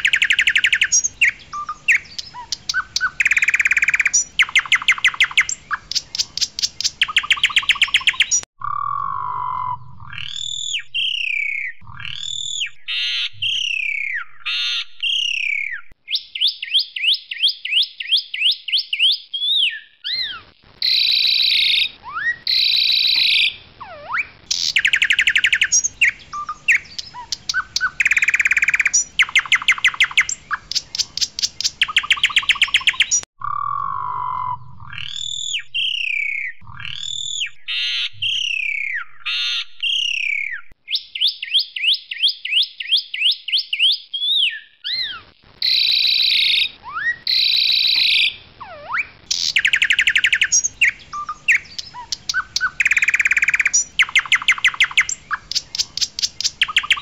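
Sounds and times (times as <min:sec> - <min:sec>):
starling singing: 0:00.0 - 0:17.1, 0:17.7 - 0:41.3, 0:44.4 - 0:57.0.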